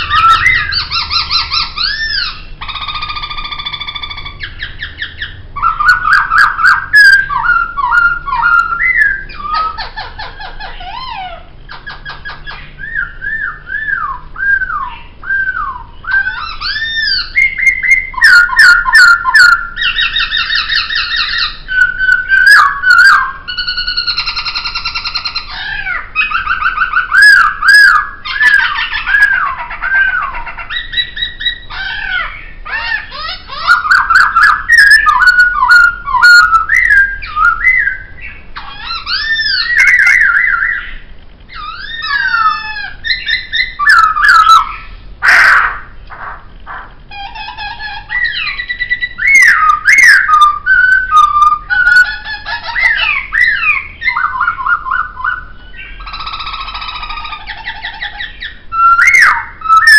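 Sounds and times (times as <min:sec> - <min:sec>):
bird singing whistled phrases: 0:00.0 - 0:09.9, 0:11.8 - 0:44.9, 0:47.2 - 0:59.9.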